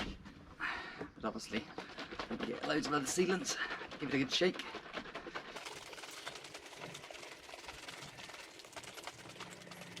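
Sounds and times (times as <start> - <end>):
bottle of sealant shaken: 1.2 - 10.0.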